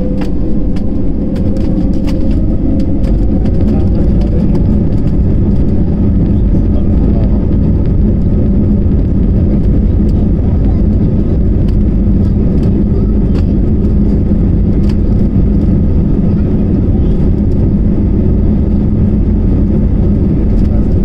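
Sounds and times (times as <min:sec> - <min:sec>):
jet engines low rumble: 0:00.0 - 0:21.0.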